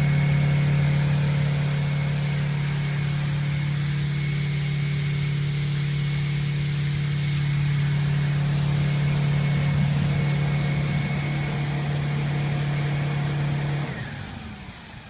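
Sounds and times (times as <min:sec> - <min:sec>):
water spray hissing: 0:00.0 - 0:13.2
diesel engine at high speed: 0:00.0 - 0:15.0.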